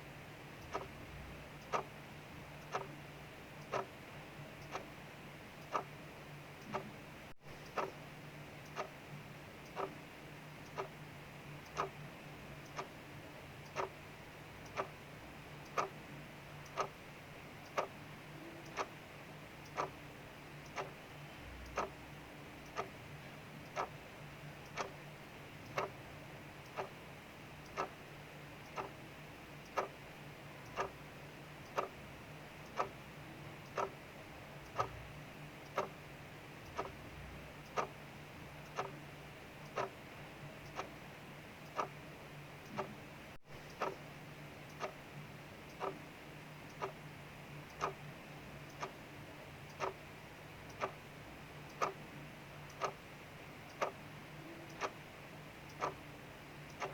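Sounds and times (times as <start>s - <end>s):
clock ticking: 0.5s - 56.9s.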